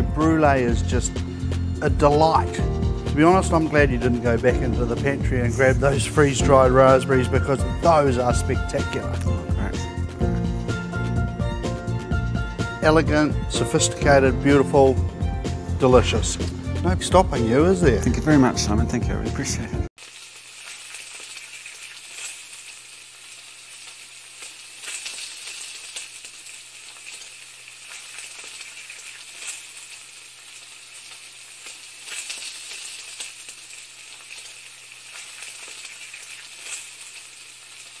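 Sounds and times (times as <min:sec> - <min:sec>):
frying sizzle with crackles: 0:00.0 - 0:13.6, 0:19.9 - 0:38.0.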